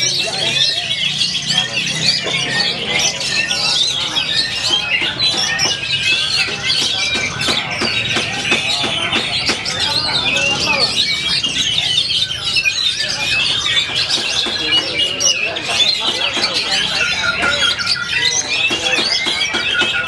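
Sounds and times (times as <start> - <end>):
murmur of voices: 0.0 - 20.0
songbirds singing: 0.0 - 20.0.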